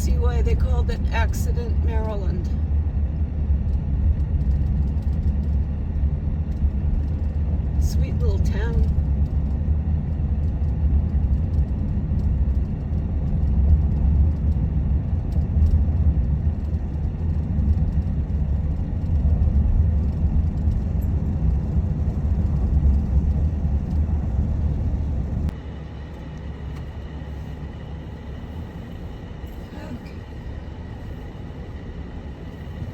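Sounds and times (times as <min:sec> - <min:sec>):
road and engine rumble: 0:00.0 - 0:32.9.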